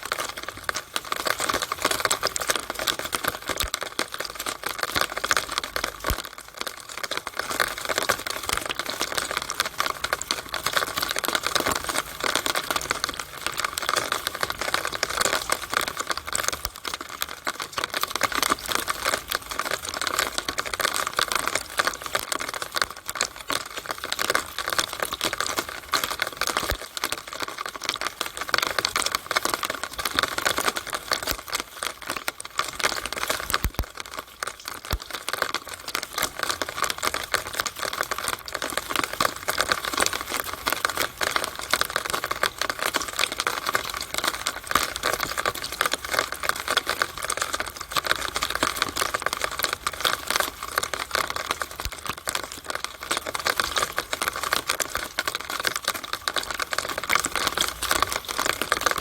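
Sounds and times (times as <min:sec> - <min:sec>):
rainwater dripping in downspout: 0:00.0 - 0:59.0.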